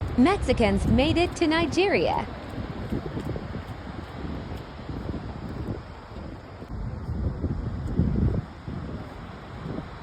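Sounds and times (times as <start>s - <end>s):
wind buffeting the microphone: 0.0s - 10.0s.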